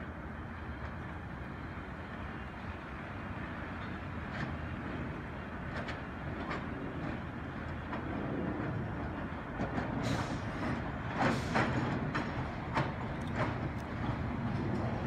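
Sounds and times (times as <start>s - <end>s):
subway train rumbling: 0.0s - 15.0s
wheels clicking on track: 0.2s - 15.0s.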